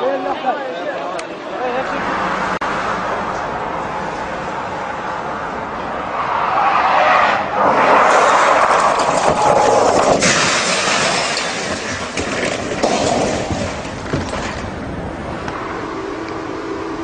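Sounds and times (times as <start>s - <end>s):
distorted drifting car noise: 1.7s - 17.0s.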